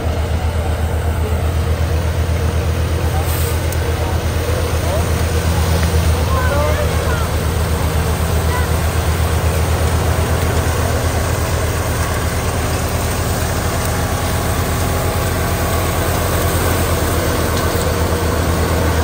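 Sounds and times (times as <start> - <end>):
thresher and tractor engine drone: 0.0 - 19.0.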